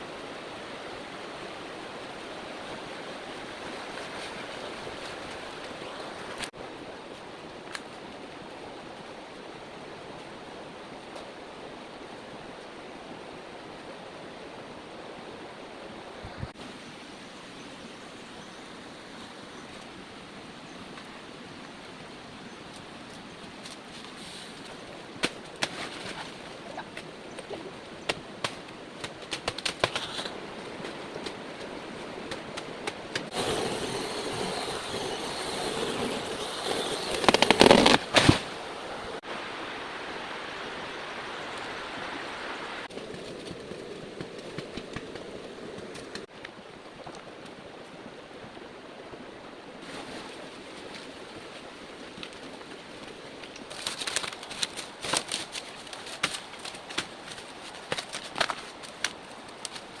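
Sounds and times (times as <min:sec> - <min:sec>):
rain hiss: 0:00.0 - 0:54.6.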